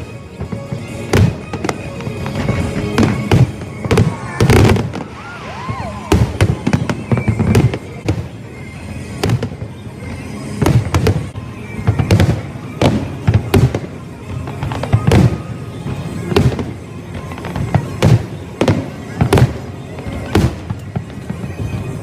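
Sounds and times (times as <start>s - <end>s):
music playing: 0.0s - 22.0s
fireworks bangs: 0.3s - 22.0s.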